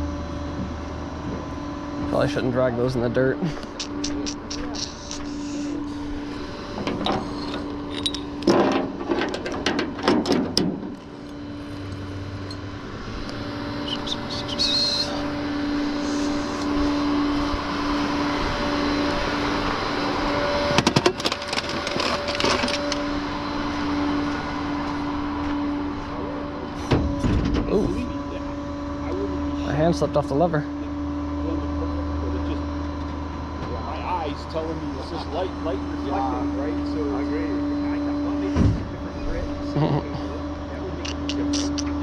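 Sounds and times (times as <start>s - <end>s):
truck engine humming: 0.0s - 42.0s.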